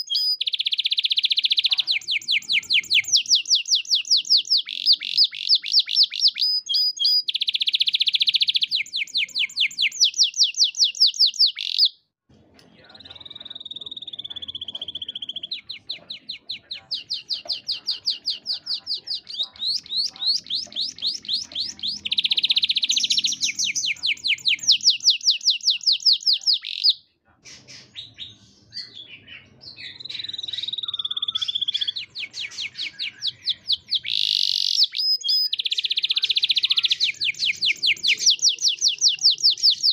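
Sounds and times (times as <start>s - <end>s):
canary singing: 0.0s - 12.1s, 12.8s - 39.9s.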